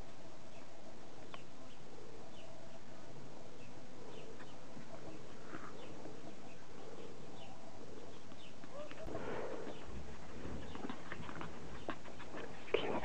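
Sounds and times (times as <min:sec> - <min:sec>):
outdoor background noise: 0:00.0 - 0:13.0
small birds chirping: 0:00.4 - 0:13.0.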